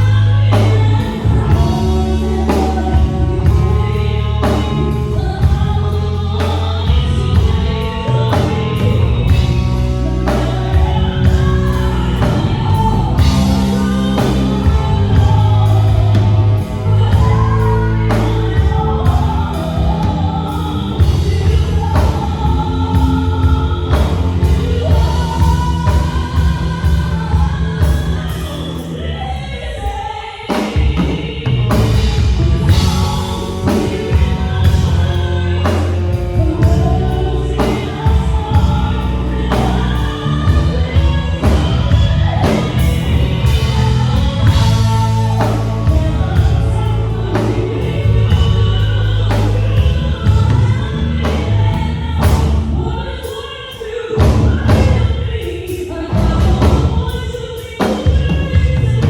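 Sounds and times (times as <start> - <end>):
live band playing: 0.0 - 59.0
person singing a ballad: 0.0 - 59.0.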